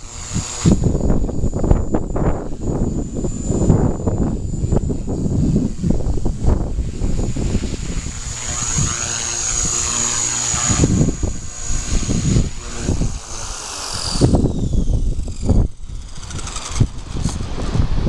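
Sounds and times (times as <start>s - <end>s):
gusty wind buffeting microphone: 0.0s - 18.0s
high thin whine: 0.0s - 18.0s.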